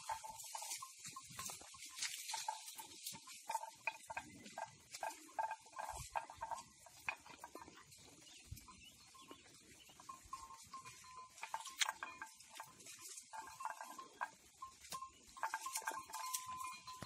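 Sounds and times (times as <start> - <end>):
faint animal sounds: 0.0 - 17.0.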